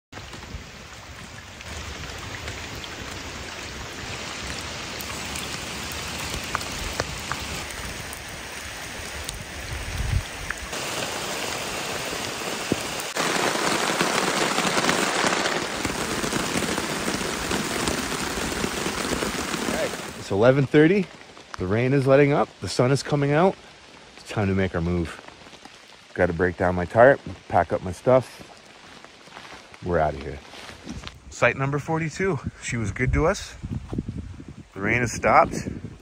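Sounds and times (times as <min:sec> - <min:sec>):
steady rain hiss: 0:00.2 - 0:36.0.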